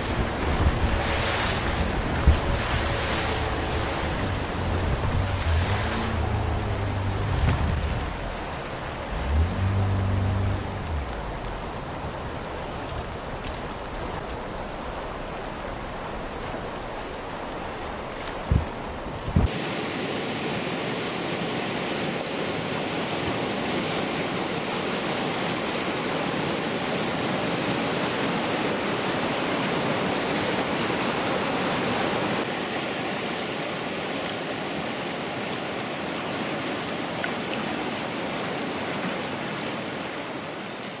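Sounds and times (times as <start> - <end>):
whitewater rapids rushing: 0.0 - 41.0.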